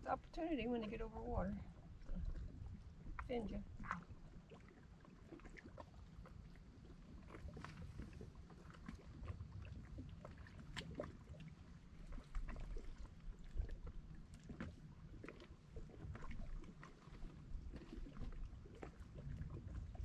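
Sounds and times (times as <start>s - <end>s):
water lapping at shore: 0.0s - 20.0s.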